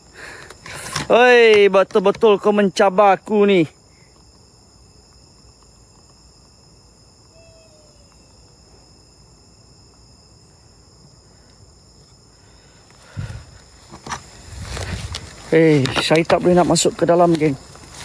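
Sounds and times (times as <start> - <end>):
night insects chirping: 0.0 - 18.0.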